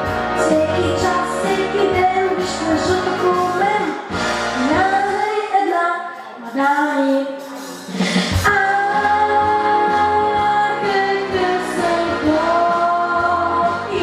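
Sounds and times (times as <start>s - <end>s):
backing track with bass line: 0.0s - 5.4s, 6.4s - 14.0s
child singing a pop song: 0.4s - 14.0s.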